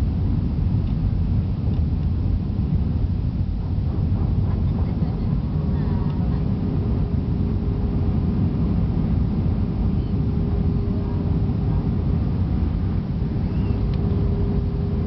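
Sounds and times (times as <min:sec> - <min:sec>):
faint steady hum: 0:00.0 - 0:15.0
jet cabin engine rumble: 0:00.0 - 0:15.0.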